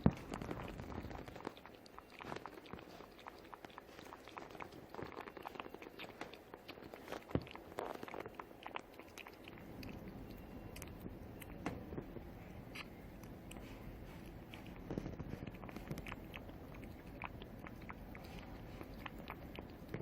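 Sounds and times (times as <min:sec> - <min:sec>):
cat crunching food: 0:00.0 - 0:20.0.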